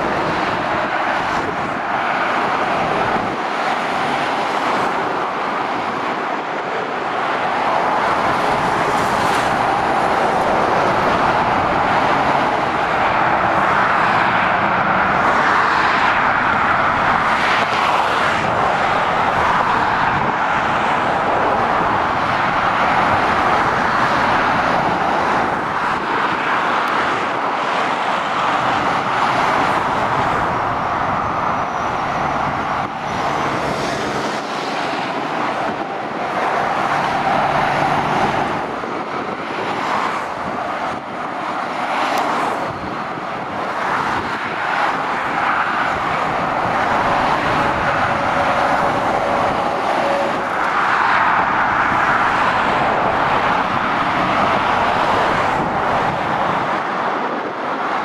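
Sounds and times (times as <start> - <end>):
motorway traffic: 0.0 - 58.0.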